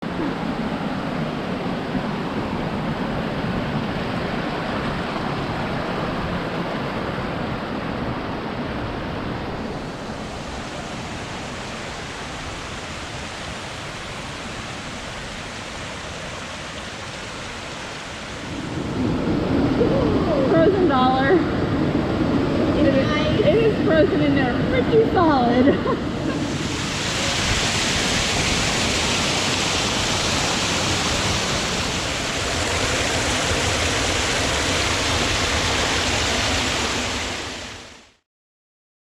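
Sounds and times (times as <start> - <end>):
waterfall rushing: 0.1 - 21.4, 22.7 - 38.2.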